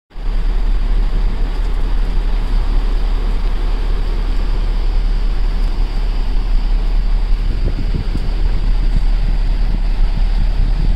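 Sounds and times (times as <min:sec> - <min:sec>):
ship's wake churning: 0:00.2 - 0:10.9
rough sea rushing: 0:00.3 - 0:10.9
wind buffeting microphone: 0:00.4 - 0:10.9.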